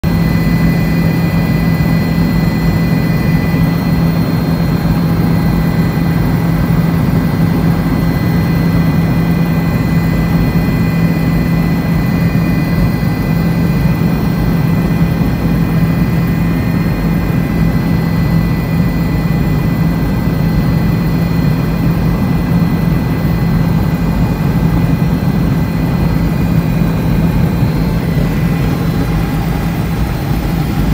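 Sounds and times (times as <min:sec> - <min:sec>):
helicopter engine and rotor drone: 0:00.0 - 0:30.9
high-pitched whine: 0:00.0 - 0:30.9.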